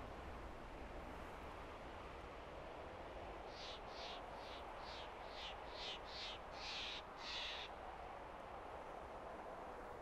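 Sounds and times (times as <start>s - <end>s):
wind-like rush: 0.0s - 10.0s.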